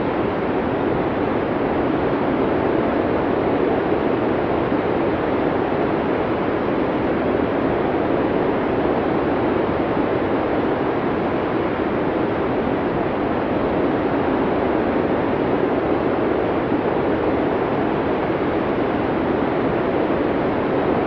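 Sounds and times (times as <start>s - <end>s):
steady blizzard wind: 0.0s - 21.0s.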